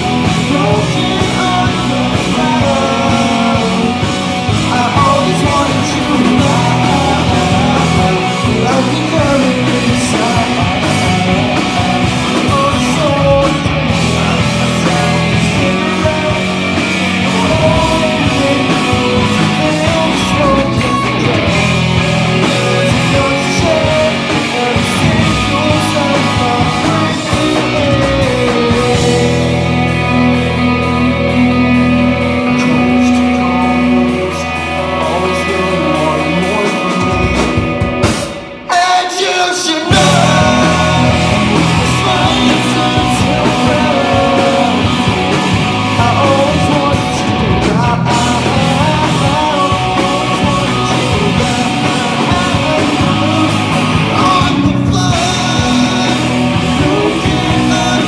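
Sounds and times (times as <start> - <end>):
bass guitar: 0.0 - 38.9, 39.8 - 58.0
distorted electric guitars: 0.0 - 58.0
drums: 0.0 - 58.0
person singing: 0.0 - 58.0.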